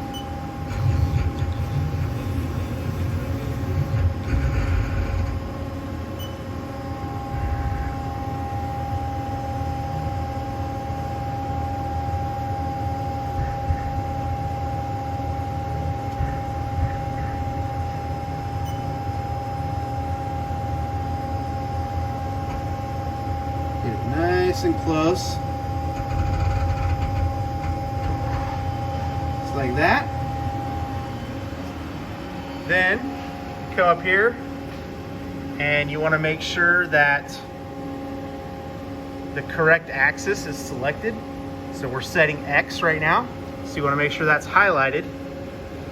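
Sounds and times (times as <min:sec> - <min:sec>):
lathe running hum and rumble: 0:00.0 - 0:45.9.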